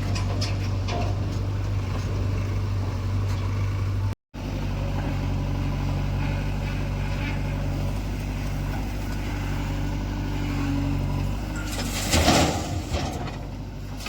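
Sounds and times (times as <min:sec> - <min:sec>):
diesel engines running: 0:00.0 - 0:14.0.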